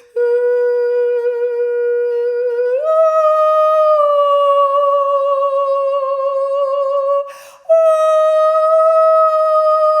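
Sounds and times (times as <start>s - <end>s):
woman singing a long high note: 0.0s - 10.0s.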